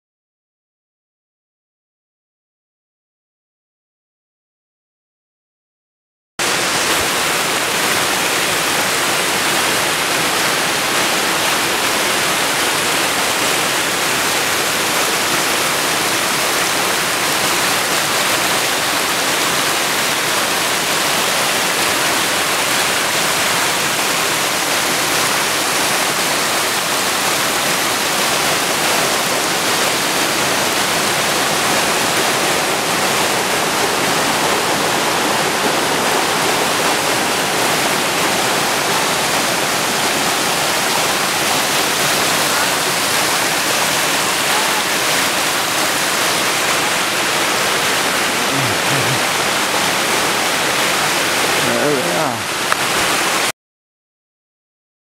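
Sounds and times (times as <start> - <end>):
water rushing over boulders: 6.4 - 53.5.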